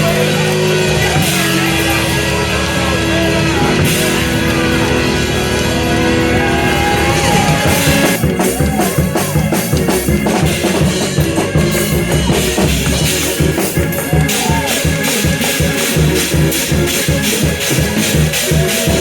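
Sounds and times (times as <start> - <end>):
drum kit beat: 0.0 - 19.0
live praise music: 0.0 - 19.0.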